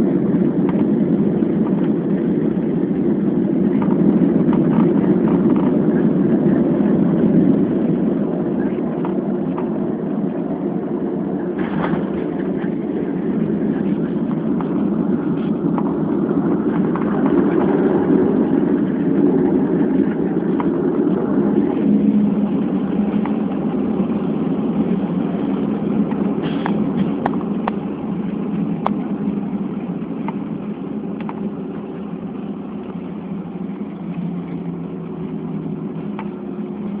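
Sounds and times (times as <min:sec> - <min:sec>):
airliner engines rumbling: 0:00.0 - 0:37.0.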